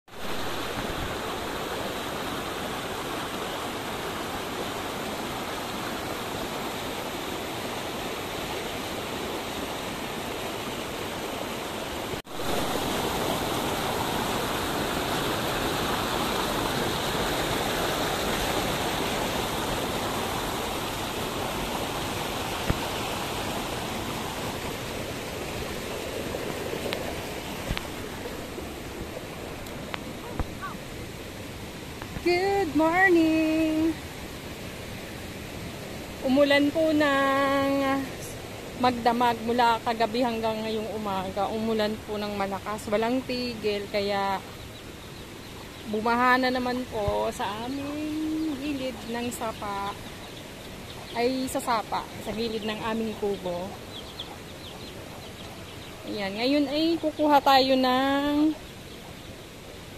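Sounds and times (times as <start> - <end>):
creek water rushing over rocks: 0.1 - 59.9.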